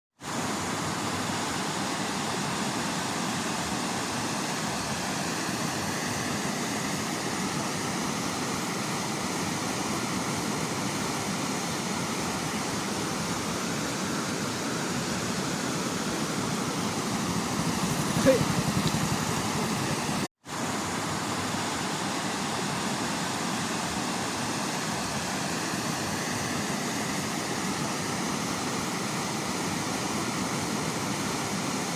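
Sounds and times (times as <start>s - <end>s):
floodwater rushing: 0.3s - 31.9s.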